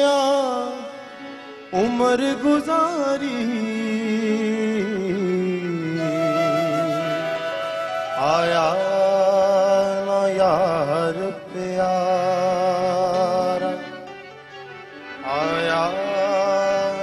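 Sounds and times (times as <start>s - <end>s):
man singing: 0.0s - 14.3s, 15.0s - 17.0s
harmonium: 0.0s - 17.0s.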